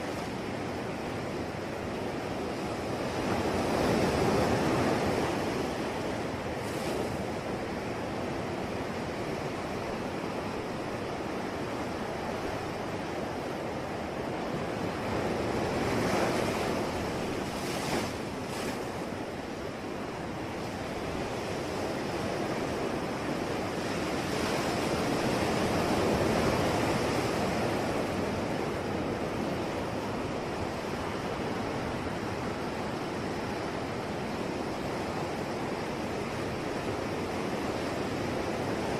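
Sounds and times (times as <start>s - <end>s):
sea waves washing on shore: 0.0s - 38.9s.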